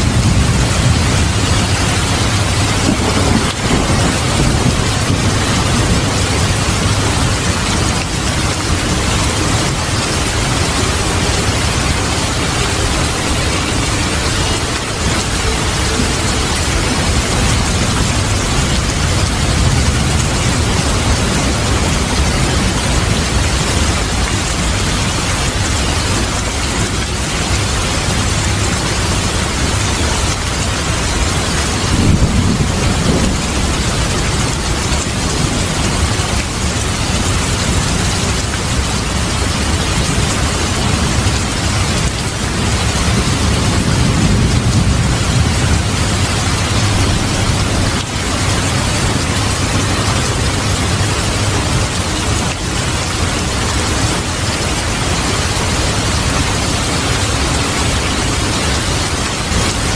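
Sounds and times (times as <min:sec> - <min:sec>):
low thunder rumbling: 0:00.0 - 0:59.9
steady rain: 0:00.0 - 0:59.9.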